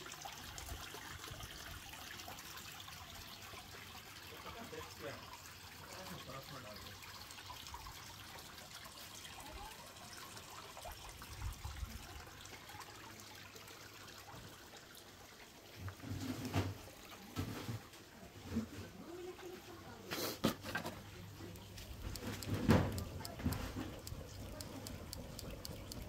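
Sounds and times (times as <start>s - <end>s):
water trickling: 0.0s - 20.1s, 21.0s - 26.0s.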